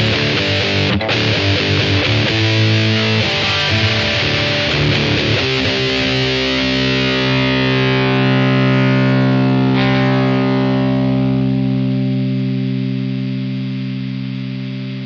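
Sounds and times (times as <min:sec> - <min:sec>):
distorted electric guitar chord ringing: 0:00.0 - 0:15.0.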